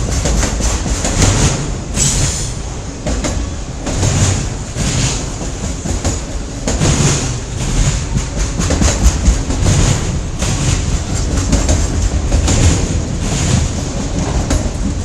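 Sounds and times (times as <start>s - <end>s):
rumble of freight cars: 0.0s - 15.0s
train wheels clicking over rail joints: 0.0s - 15.0s.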